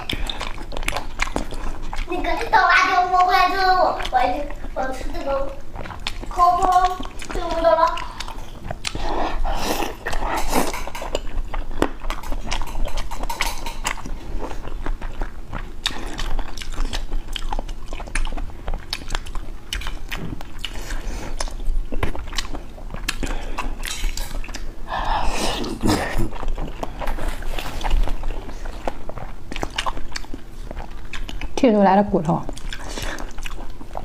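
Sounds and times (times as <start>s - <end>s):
chewing and mouth smacks: 0.0s - 34.0s.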